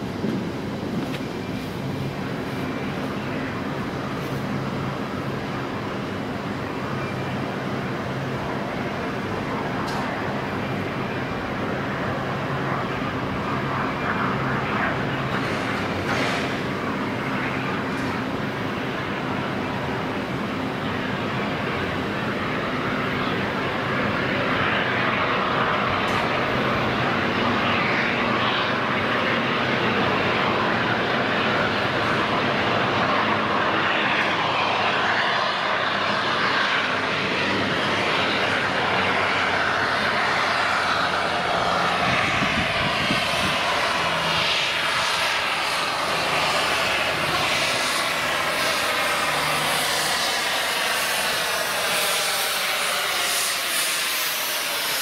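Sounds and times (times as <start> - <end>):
steam locomotive passing: 0.0 - 55.0.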